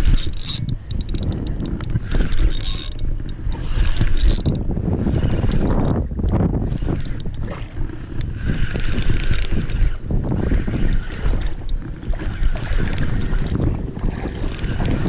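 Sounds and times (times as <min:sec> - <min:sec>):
fishing reel clicking and whirring: 0:00.0 - 0:15.0
wind buffeting microphone: 0:00.0 - 0:15.0.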